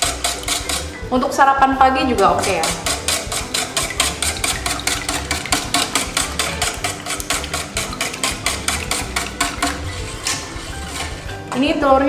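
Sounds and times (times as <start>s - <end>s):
whisk clicking in metal bowl: 0.0s - 1.1s, 2.2s - 11.8s.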